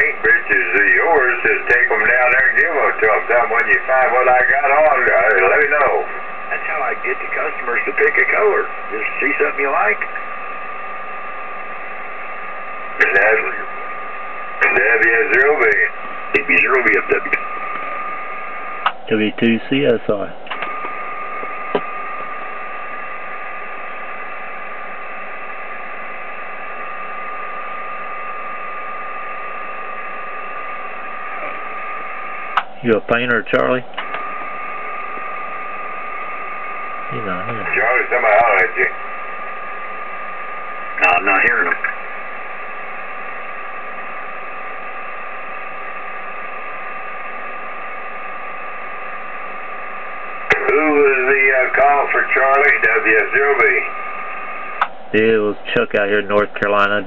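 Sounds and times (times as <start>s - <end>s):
radio receiver hiss: 0.0s - 57.0s.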